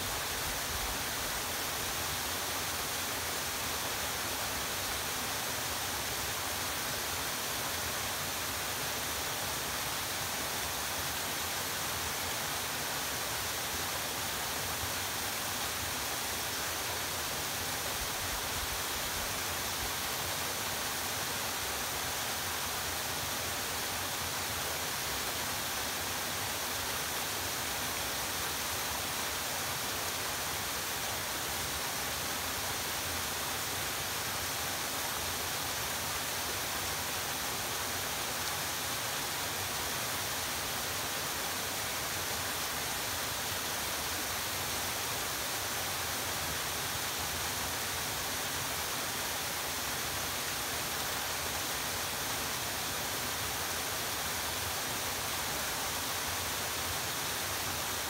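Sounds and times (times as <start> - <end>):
waterfall hiss: 0.0 - 58.0.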